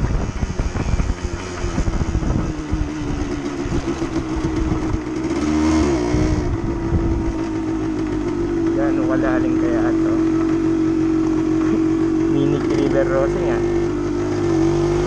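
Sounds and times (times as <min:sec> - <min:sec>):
wind buffeting microphone: 0:00.0 - 0:12.2
motorcycle engine running: 0:00.0 - 0:15.0.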